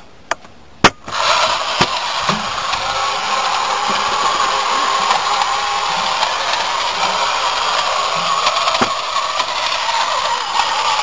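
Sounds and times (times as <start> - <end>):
toy motor whirring: 1.1 - 11.0.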